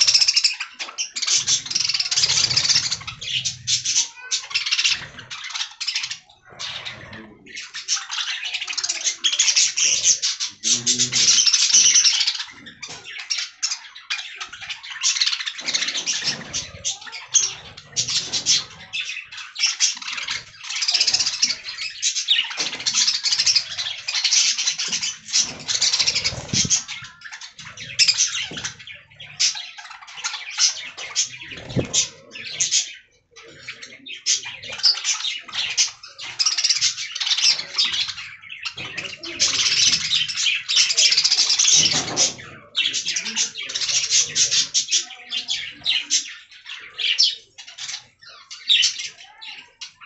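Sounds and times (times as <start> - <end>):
budgerigars chattering: 0.0 - 50.0.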